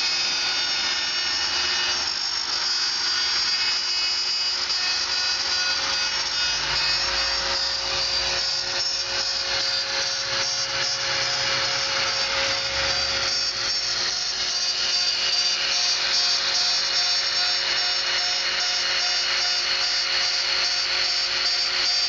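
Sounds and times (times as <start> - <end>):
bit cutting into wood: 0.0 - 22.0
router spindle whine: 0.0 - 22.0.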